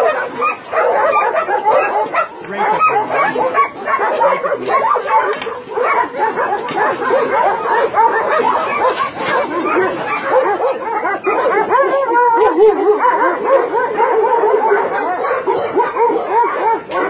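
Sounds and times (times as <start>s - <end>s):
many dogs barking and yipping: 0.0s - 17.0s.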